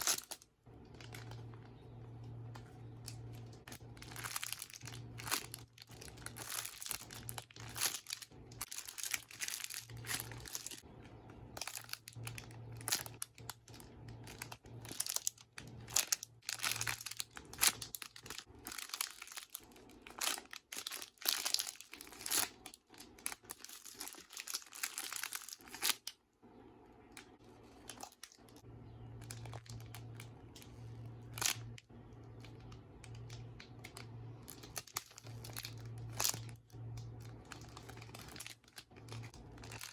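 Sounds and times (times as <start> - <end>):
low steady hum: 0.0 - 39.9
plastic packaging crinkling: 0.0 - 39.9.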